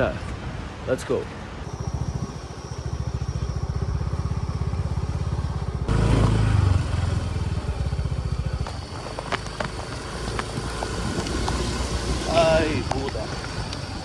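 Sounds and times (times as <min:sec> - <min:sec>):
vehicle engine running: 0:01.5 - 0:14.0.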